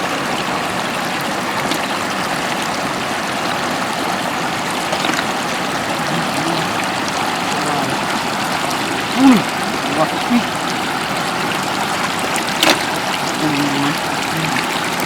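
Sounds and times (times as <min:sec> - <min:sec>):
floodwater rushing over road: 0:00.0 - 0:15.0.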